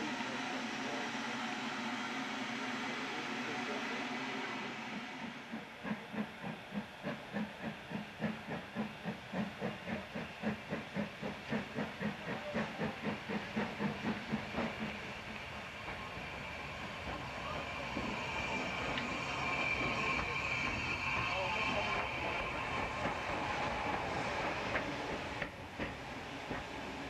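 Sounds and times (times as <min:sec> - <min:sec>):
steam hissing: 0:00.0 - 0:27.0
steam locomotive exhaust beats: 0:00.0 - 0:27.0.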